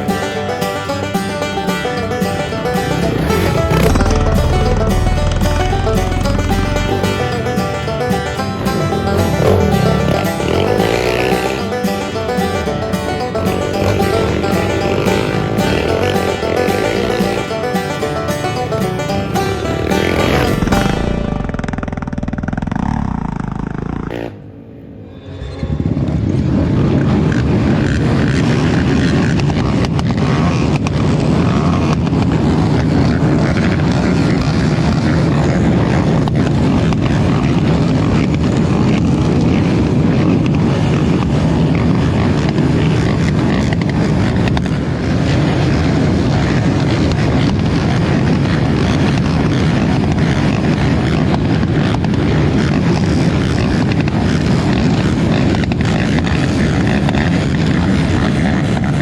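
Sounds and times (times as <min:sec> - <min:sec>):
atv engine running loud: 0:00.0 - 0:24.8, 0:26.0 - 0:59.0.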